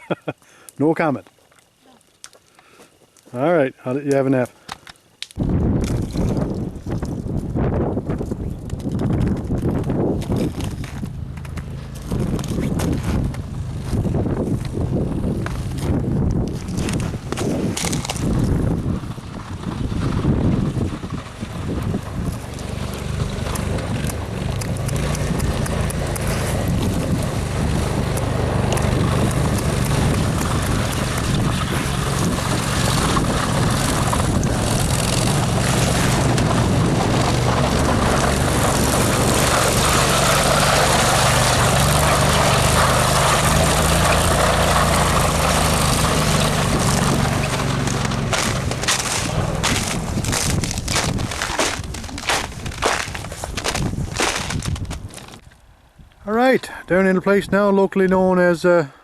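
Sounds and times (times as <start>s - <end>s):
wind and travel noise: 4.7s - 59.0s
vehicle engine running: 6.6s - 54.7s.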